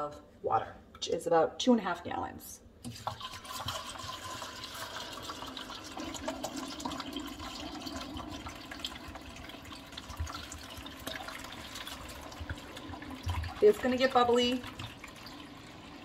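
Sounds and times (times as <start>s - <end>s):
water pouring into a metal pot: 2.9s - 16.0s.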